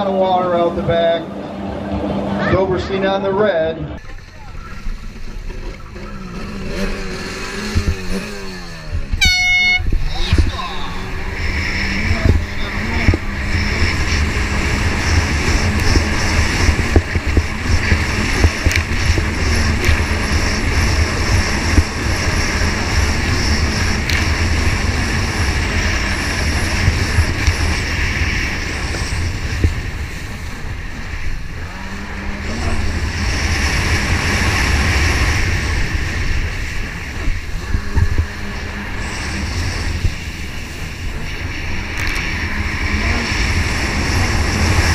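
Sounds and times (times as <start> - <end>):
jet ski engine running: 0.0 - 44.9
wind on camera: 3.9 - 44.9.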